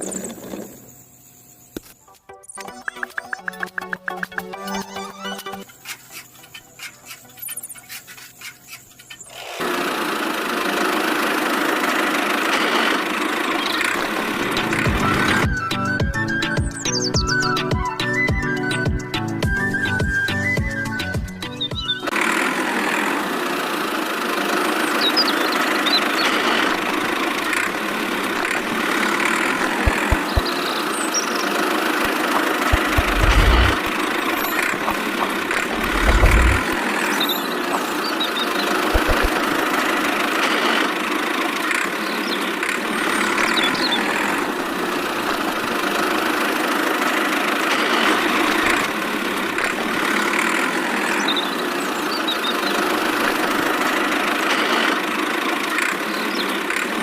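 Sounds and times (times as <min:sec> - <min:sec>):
tractor engine idling: 0:05.6 - 0:17.4, 0:21.7 - 0:57.0.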